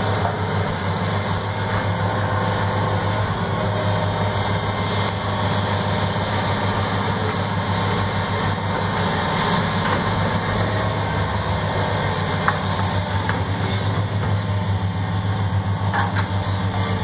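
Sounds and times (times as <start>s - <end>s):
excavator diesel engines droning: 0.0s - 17.0s.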